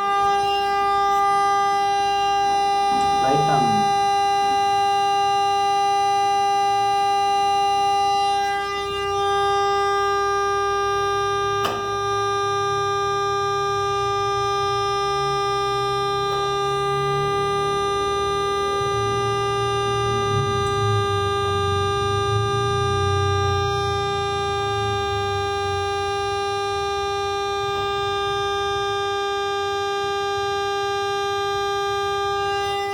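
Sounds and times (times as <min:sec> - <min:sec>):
electrical hum: 0:00.0 - 0:32.9.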